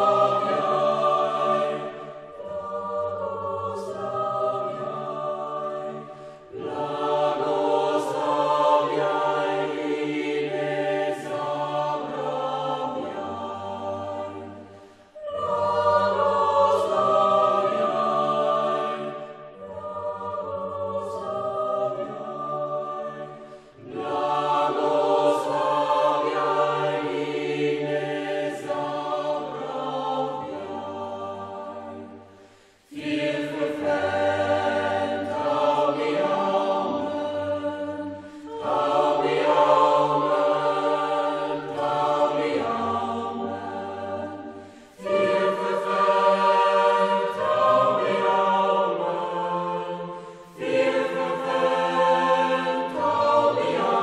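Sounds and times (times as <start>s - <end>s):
choir singing sustained notes: 0.0s - 54.0s.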